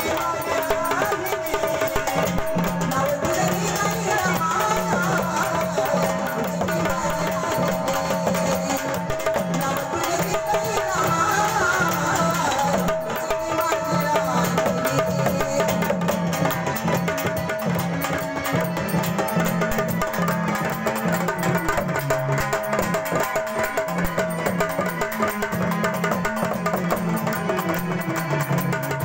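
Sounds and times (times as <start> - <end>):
hand drums playing: 0.0 - 29.0.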